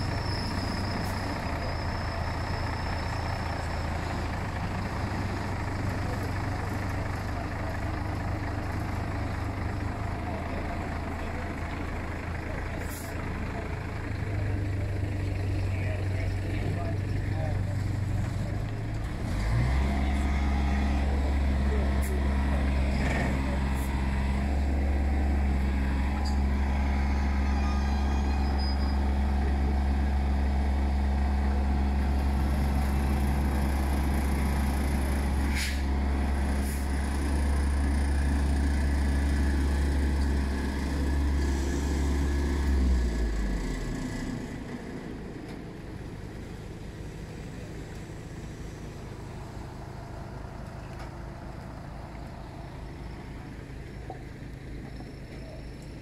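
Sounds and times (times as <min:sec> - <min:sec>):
heavy truck diesel engine drone: 0:00.0 - 0:56.0.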